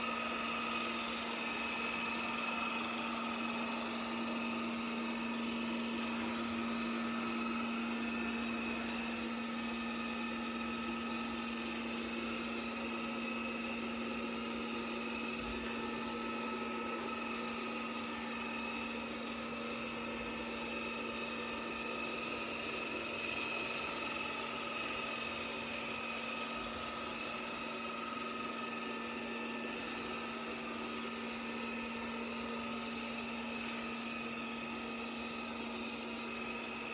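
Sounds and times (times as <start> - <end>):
robot vacuum cleaner running: 0.0 - 36.9.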